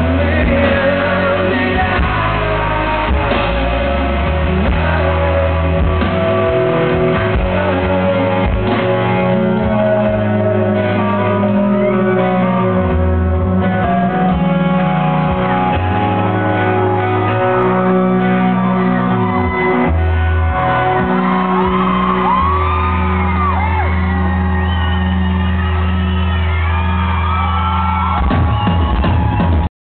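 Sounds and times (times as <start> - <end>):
crowd whooping and shouting: 0.0 - 29.7
live rock band playing: 0.0 - 29.7.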